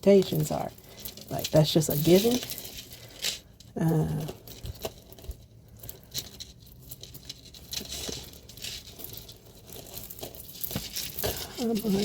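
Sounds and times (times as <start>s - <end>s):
jewelry chain clicking and rustling: 0.0s - 12.0s.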